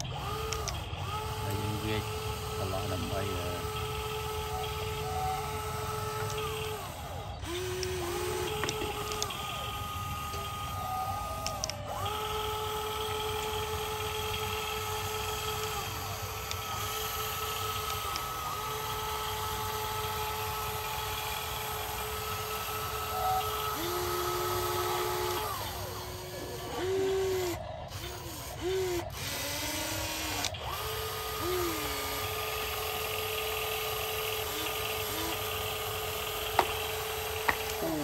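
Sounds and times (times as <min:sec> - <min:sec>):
small electric motors whining: 0:00.0 - 0:38.0.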